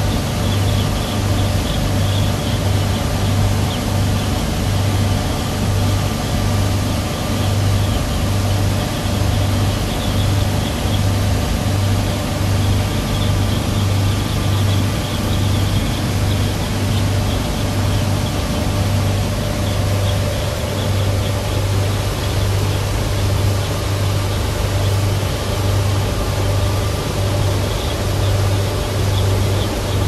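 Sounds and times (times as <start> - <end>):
outboard motors humming: 0.0 - 30.0
steady rushing noise: 0.0 - 30.0.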